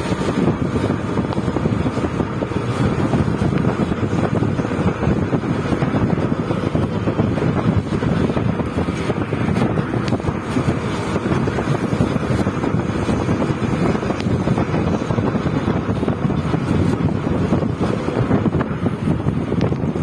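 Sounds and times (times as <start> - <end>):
road and engine noise: 0.0 - 20.0
wind buffeting microphone: 0.0 - 20.0.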